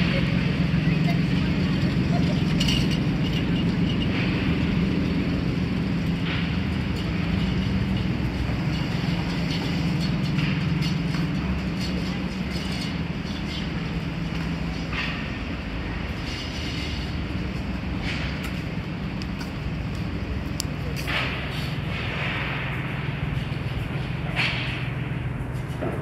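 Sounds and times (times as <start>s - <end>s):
city noise: 0.0s - 26.0s
vehicle engines humming: 0.0s - 26.0s.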